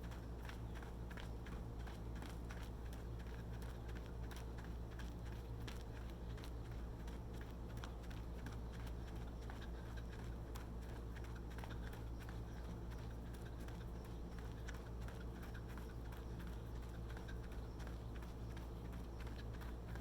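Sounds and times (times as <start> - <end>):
low steady hum: 0.0 - 20.0
running footsteps: 0.0 - 20.0.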